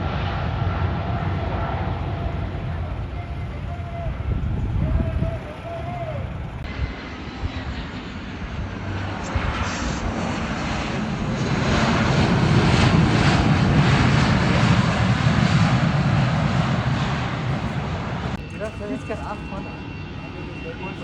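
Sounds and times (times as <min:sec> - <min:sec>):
jet airliner engine passing by: 0:00.0 - 0:21.0.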